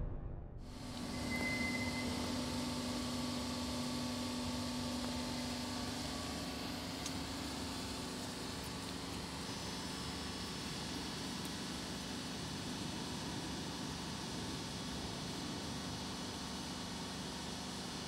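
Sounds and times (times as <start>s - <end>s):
diesel generator running: 0.7s - 18.0s.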